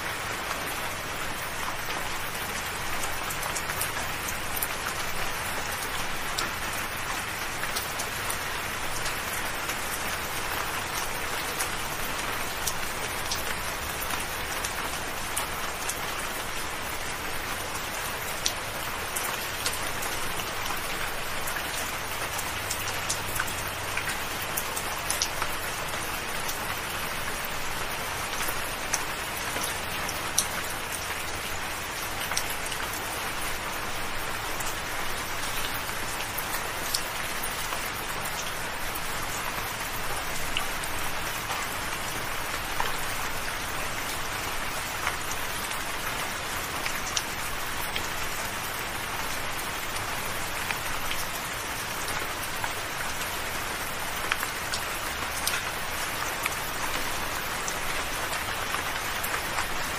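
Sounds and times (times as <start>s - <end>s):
soft steady rain: 0.0s - 59.9s
raindrops ticking: 0.1s - 59.9s.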